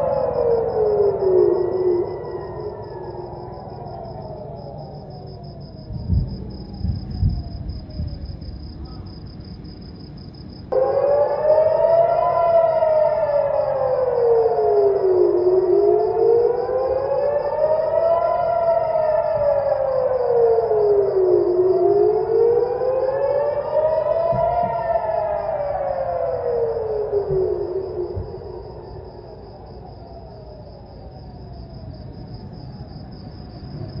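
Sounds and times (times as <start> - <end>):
warning siren wailing: 0.0 - 9.0, 10.7 - 34.0.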